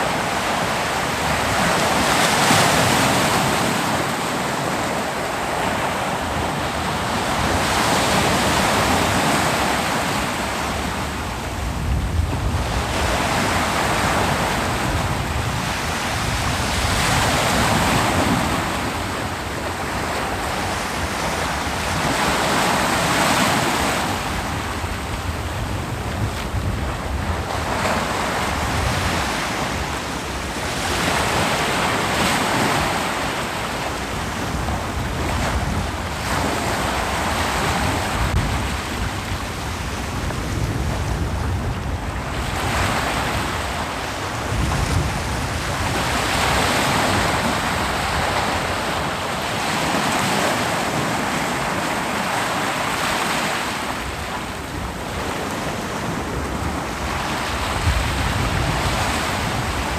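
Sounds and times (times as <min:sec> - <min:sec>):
ocean surf breaking: 0:00.0 - 0:59.9
wind on microphone: 0:00.0 - 0:59.9.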